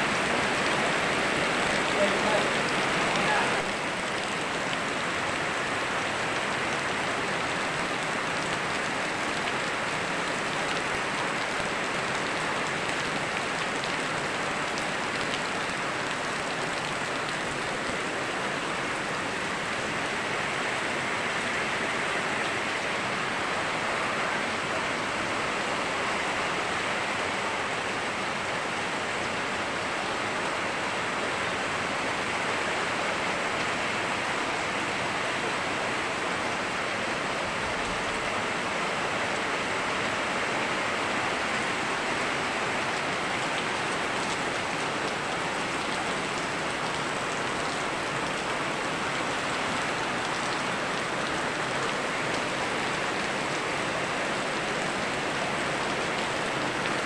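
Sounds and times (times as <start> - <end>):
flowing river: 0.0 - 57.0
steady rain: 0.0 - 57.0.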